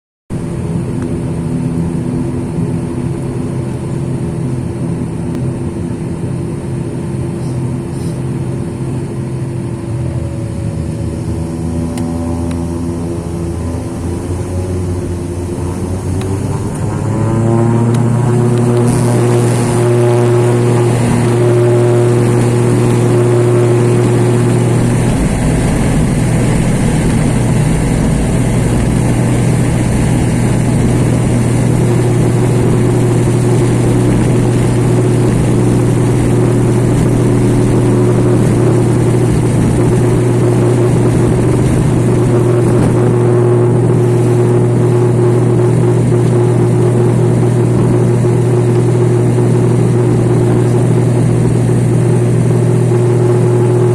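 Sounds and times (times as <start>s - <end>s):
aircraft engines droning: 0.3s - 53.9s
low rumble: 0.3s - 53.9s.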